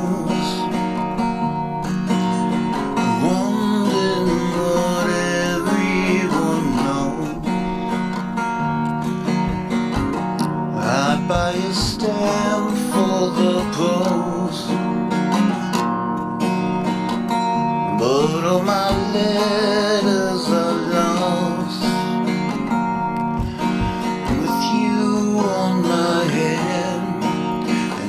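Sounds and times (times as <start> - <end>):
man singing: 0.0 - 1.4, 2.3 - 15.6, 17.8 - 22.6, 23.5 - 28.0
acoustic guitar strummed and picked: 0.0 - 28.0.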